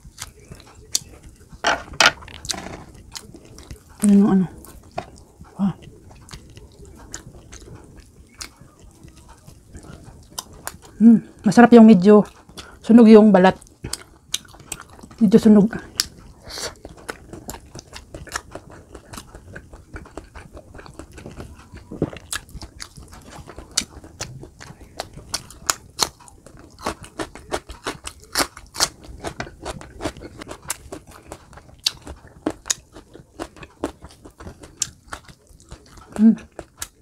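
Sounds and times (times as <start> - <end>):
chewing crunchy food: 0.0 - 37.0.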